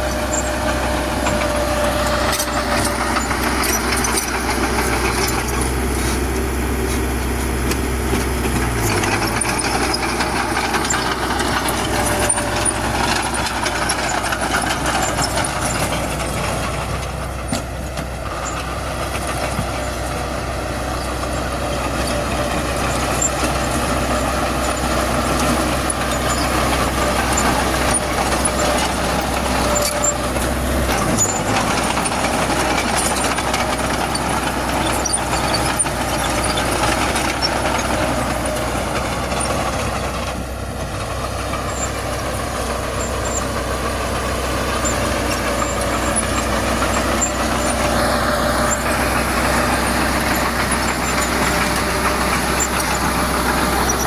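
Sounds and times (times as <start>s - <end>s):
bulldozer engine: 0.0s - 54.0s
dump trucks running: 0.0s - 54.0s.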